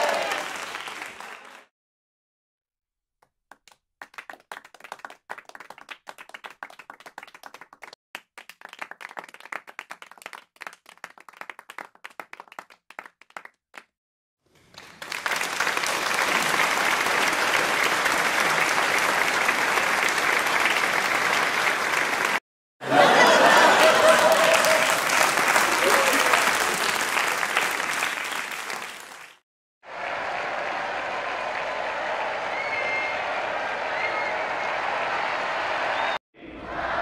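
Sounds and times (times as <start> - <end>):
audience applause: 0.0 - 1.7, 3.6 - 13.6, 14.7 - 36.2.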